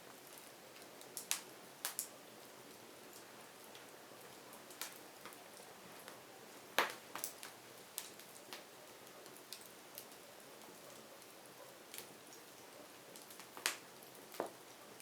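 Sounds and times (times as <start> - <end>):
faint steady hiss: 0.0 - 15.0
firewood crackling and popping: 0.0 - 15.0.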